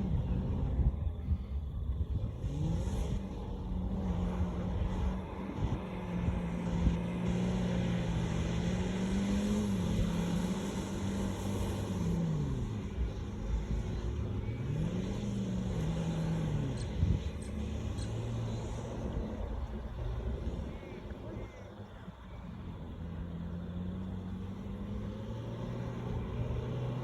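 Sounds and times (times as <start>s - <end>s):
vehicle engine revving: 0.0s - 27.0s.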